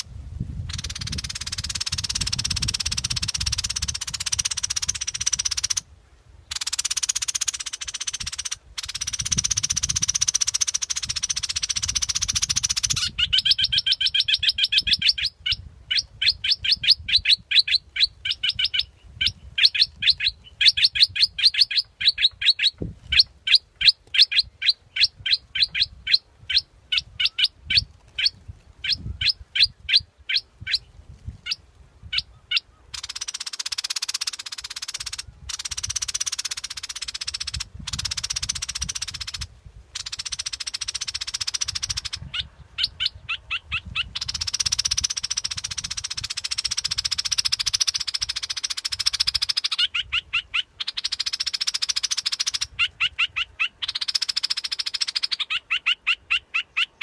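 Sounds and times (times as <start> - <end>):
bird chirps: 0.7 - 5.8, 6.5 - 30.9, 31.5 - 57.0.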